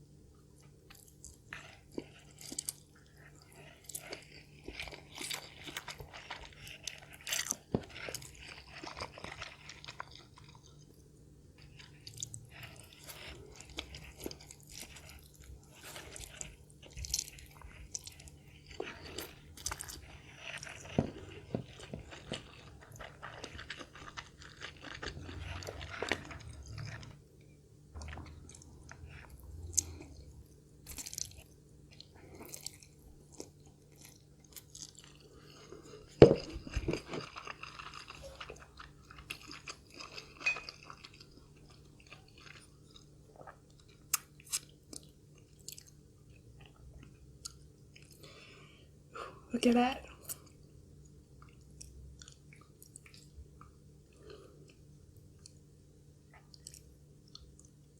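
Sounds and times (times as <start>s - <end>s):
chewing crunchy noodles: 0.3s - 57.9s.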